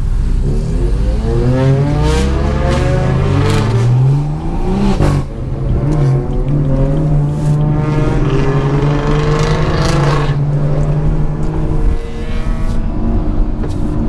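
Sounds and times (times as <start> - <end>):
car engine accelerating: 0.0 - 14.0
steady engine drone: 0.0 - 14.0.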